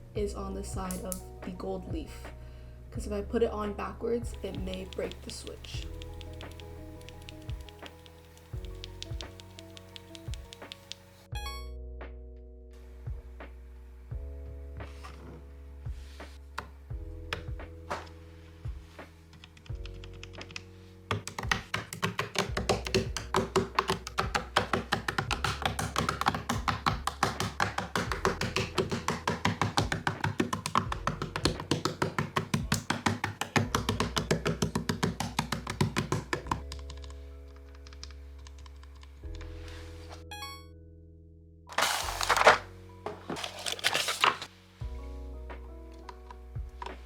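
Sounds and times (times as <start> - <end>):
soft background music: 0.0 - 47.0.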